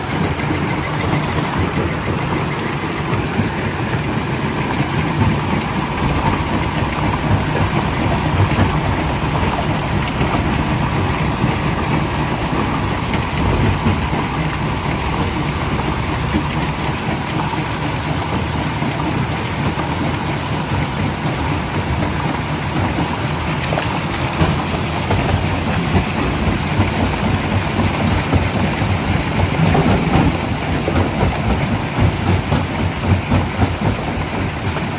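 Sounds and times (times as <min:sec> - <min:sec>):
rock crusher rumbling: 0:00.0 - 0:34.9.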